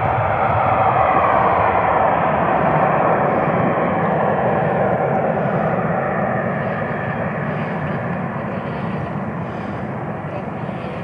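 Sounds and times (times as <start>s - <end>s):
jet engines climbing: 0.0s - 11.0s.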